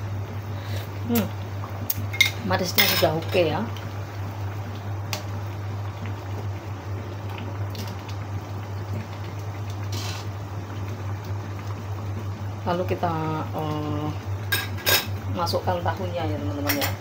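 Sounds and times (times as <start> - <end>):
sauce bubbling in a wok: 0.0 - 14.5.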